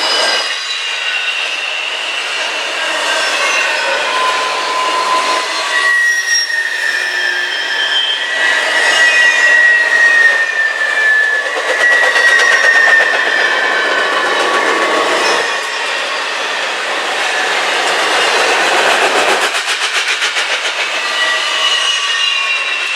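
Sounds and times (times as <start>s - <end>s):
train cars running noise: 0.0s - 22.9s
train wheels squealing: 0.0s - 22.9s.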